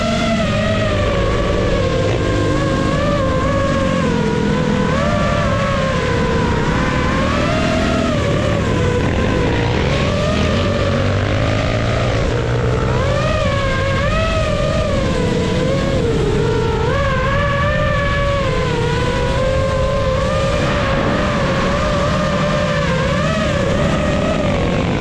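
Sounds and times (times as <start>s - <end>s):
drone propellers whining: 0.0s - 25.0s
low engine drone: 0.0s - 25.0s.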